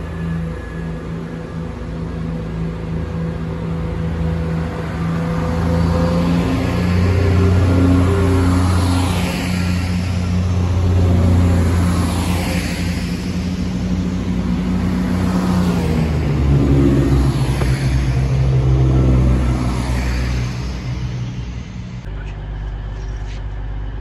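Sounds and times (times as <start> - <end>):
train diesel engines accelerating: 0.0 - 24.0.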